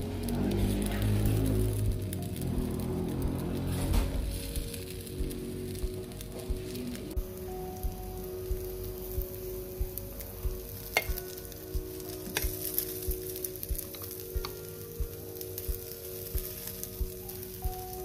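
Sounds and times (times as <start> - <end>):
background music with steady beat: 0.0 - 18.0
batter sizzling: 0.0 - 18.0.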